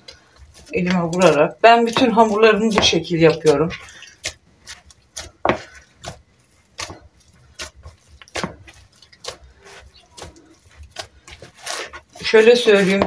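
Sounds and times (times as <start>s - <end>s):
hands slapping wet dough: 0.0s - 13.0s.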